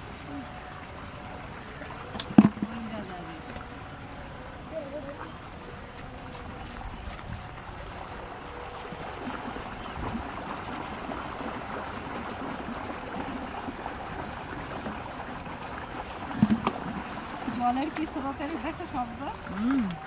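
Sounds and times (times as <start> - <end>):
water flowing and gurgling: 0.0 - 20.0.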